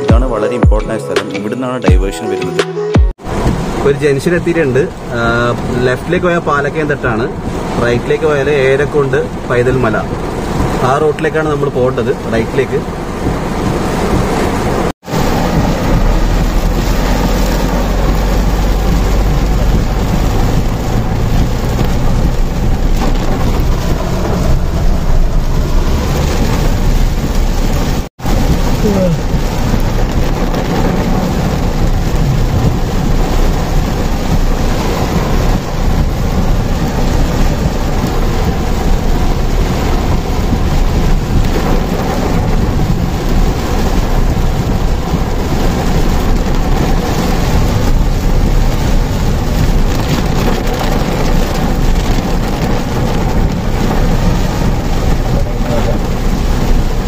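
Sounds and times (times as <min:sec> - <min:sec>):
heavy rain on a car: 0:03.2 - 0:57.0.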